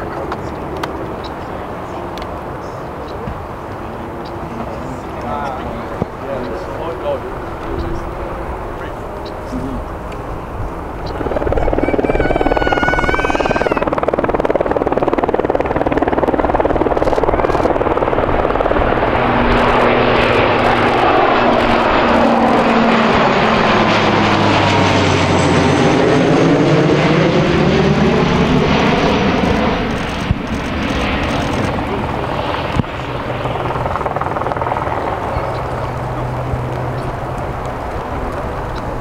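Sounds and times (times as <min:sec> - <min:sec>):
turboprop plane flying past: 0:00.0 - 0:39.0.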